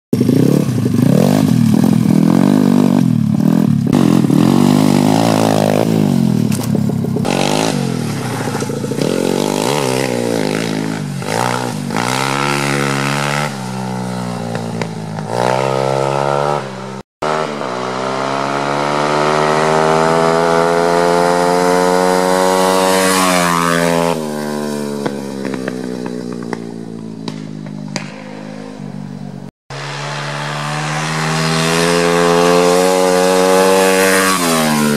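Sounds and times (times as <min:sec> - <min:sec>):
motorbike engine revving: 0:00.2 - 0:34.9.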